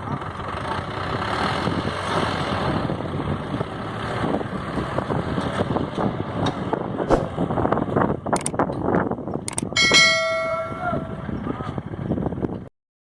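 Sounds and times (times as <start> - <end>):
tractor engine running under load: 0.0 - 12.7.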